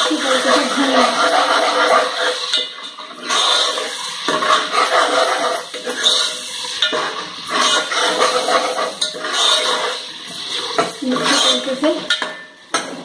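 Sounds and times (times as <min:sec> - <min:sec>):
metal ladle scraping a pot: 0:00.0 - 0:13.0
onions sizzling in oil: 0:00.0 - 0:13.0.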